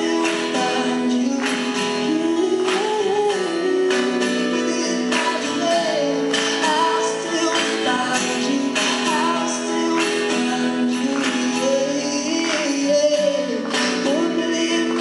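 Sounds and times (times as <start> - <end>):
strummed acoustic guitars: 0.0 - 15.0.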